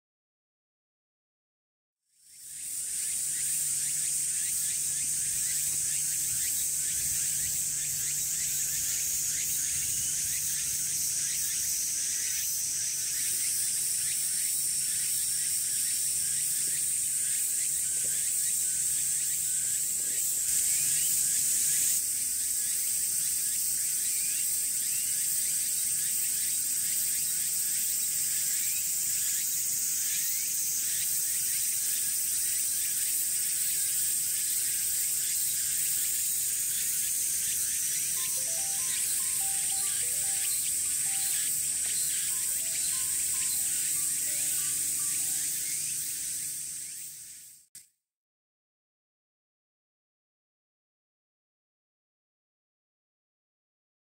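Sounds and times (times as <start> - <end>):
cicadas buzzing: 2.2 - 47.7.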